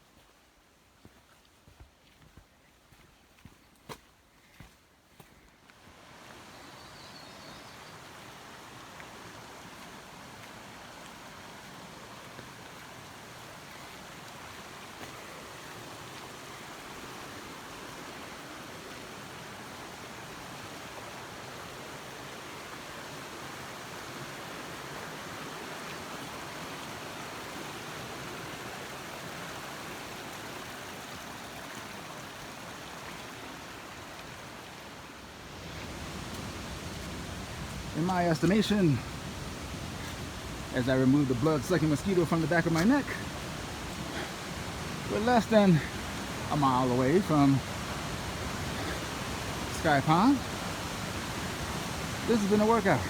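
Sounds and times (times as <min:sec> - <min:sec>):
mountain stream rushing: 0:04.6 - 0:53.0.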